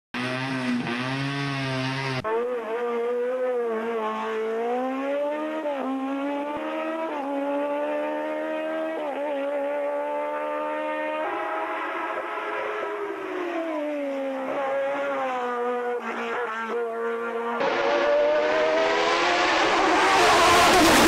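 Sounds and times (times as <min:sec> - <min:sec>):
race car engine at full throttle: 0:00.1 - 0:21.0
race car engine at steady revs: 0:00.2 - 0:21.0.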